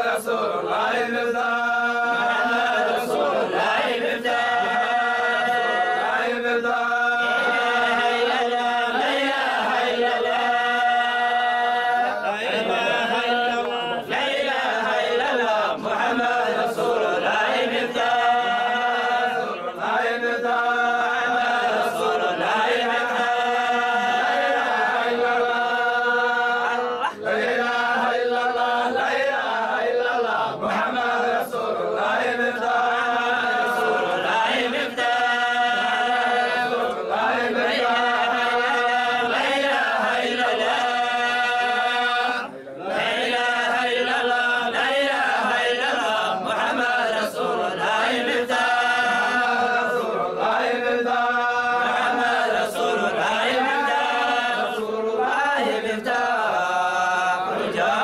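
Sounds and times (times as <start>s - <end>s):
men chanting together: 0.0s - 58.0s.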